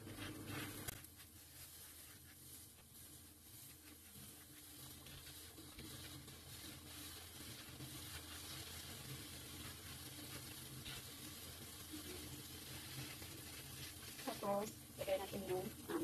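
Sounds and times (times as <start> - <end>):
egg sizzling in oil: 0.0 - 16.0.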